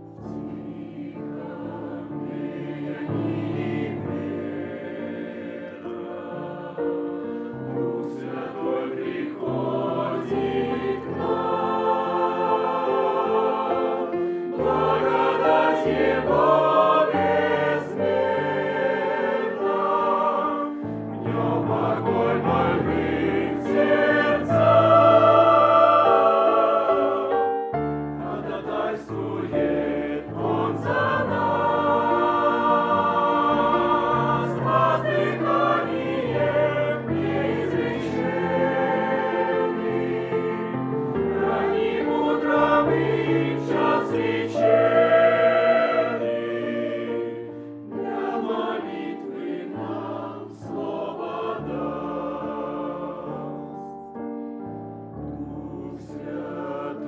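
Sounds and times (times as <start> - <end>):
choir singing in sustained chords: 0.0 - 57.0.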